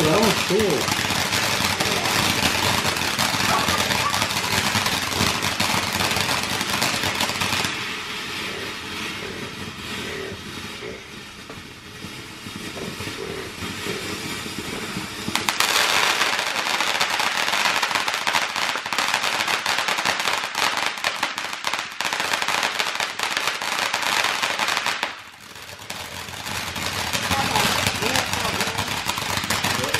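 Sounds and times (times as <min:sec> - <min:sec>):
firework fountain crackling hiss: 0:00.0 - 0:29.9.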